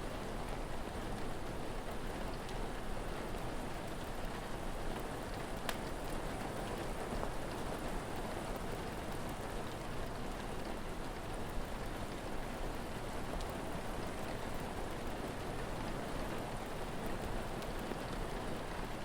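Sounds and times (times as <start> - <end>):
rain falling on a surface: 0.0 - 19.0.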